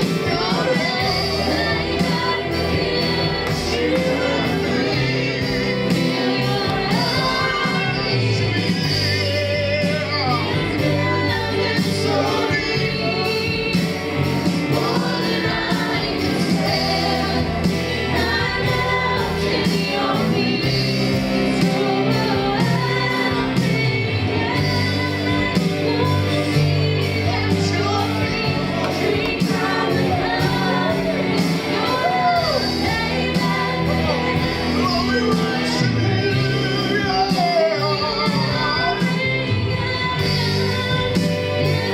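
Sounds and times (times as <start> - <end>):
band playing with steady beat: 0.0 - 41.9
gospel voices singing: 0.0 - 41.9.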